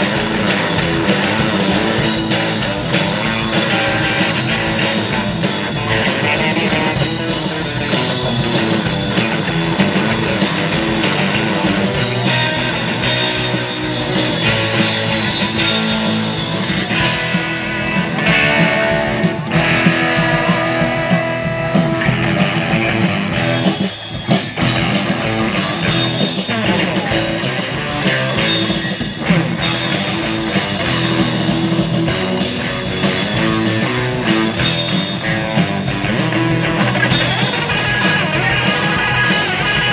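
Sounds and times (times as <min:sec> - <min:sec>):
live surf rock band: 0:00.0 - 0:39.9.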